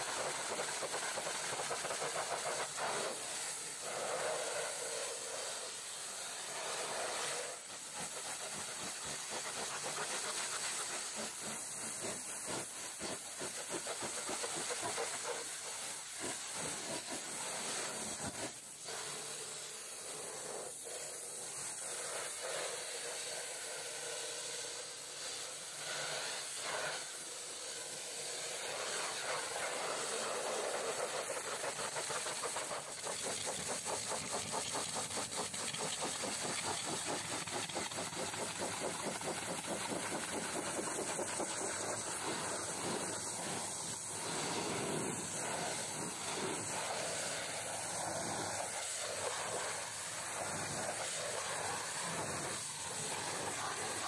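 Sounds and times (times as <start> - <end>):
pressure washer spray: 0.0 - 54.0.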